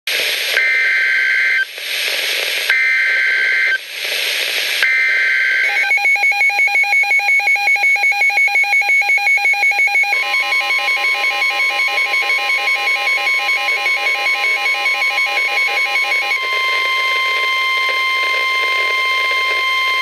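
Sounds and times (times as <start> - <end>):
radio static: 0.1 - 20.0
rapid pulsing alarm beep: 0.6 - 1.7, 2.7 - 3.8, 4.8 - 20.0.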